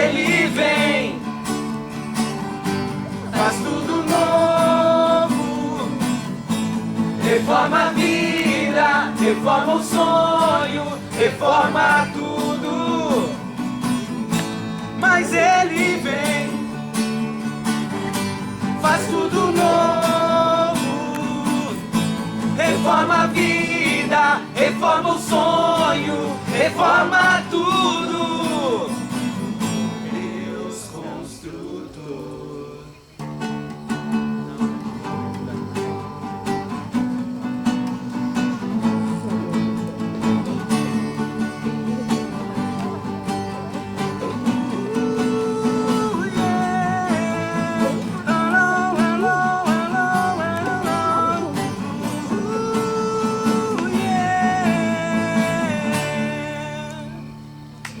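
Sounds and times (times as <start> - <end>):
acoustic guitar chords: 0.0 - 58.0.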